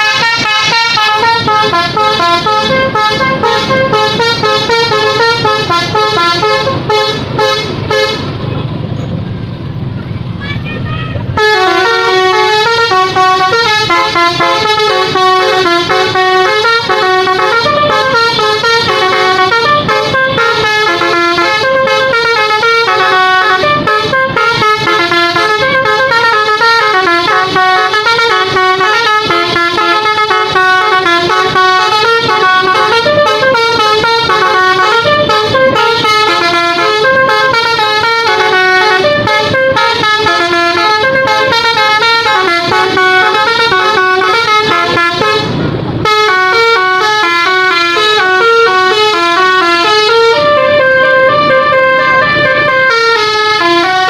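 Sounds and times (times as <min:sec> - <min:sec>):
air horns playing a tune: 0:00.0 - 0:08.5, 0:11.3 - 0:54.0.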